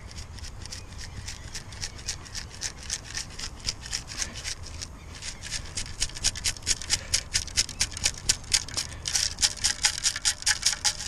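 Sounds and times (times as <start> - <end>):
sand rattling in metal scoop: 0.0 - 11.0.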